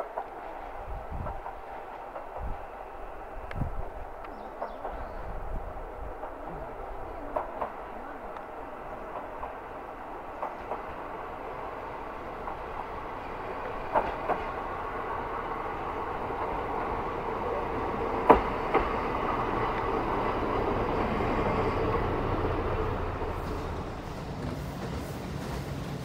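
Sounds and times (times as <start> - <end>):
diesel railcar engine running: 0.0 - 26.0
wheels clicking over rail joints: 0.0 - 26.0.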